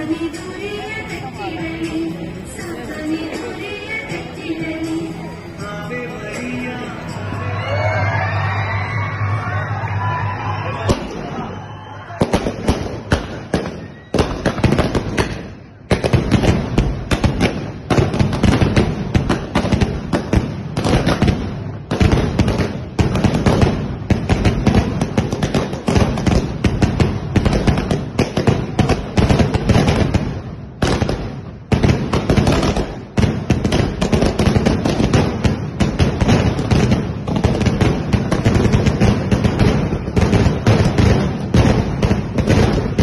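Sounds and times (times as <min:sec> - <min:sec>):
fireworks bangs and crackles: 0:00.0 - 0:07.8, 0:10.1 - 0:43.0.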